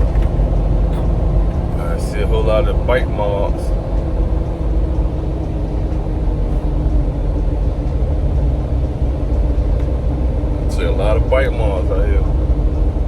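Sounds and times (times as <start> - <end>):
car engine rumble: 0.0 - 13.0
tire rumble: 0.0 - 13.0.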